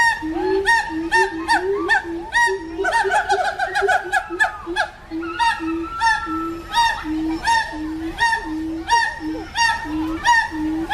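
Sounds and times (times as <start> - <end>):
low hoots: 0.0 - 10.9
monkeys calling: 0.0 - 10.9.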